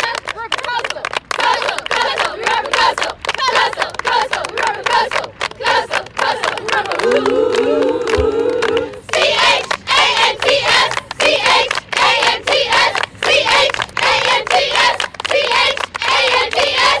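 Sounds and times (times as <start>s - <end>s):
hands clapping: 0.0s - 17.0s
women singing a chant: 0.0s - 17.0s.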